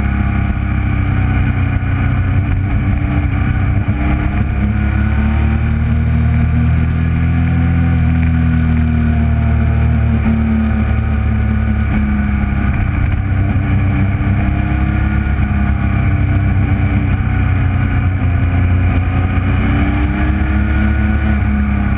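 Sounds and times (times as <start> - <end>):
motorcycle engine running: 0.0 - 21.9
wind rumble on microphone: 0.0 - 21.9.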